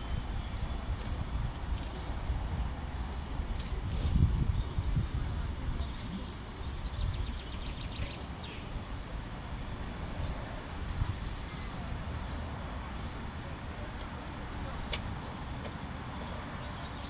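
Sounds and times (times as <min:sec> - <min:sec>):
low uneven rumble: 0:00.0 - 0:17.0.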